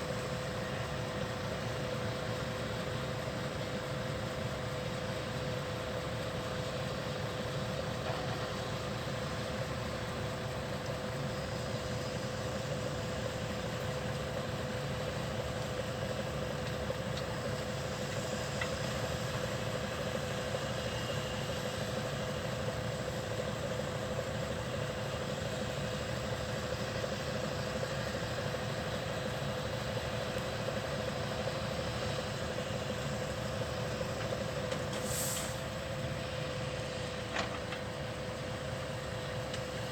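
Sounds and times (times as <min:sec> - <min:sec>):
diesel engine idling with whine: 0:00.0 - 0:39.9.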